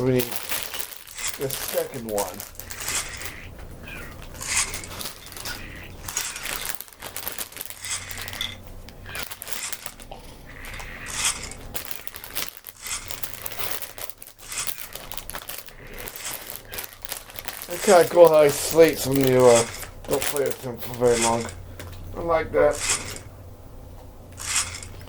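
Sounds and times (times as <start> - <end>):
plastic packaging crinkling: 0.0 - 23.3, 24.3 - 25.0.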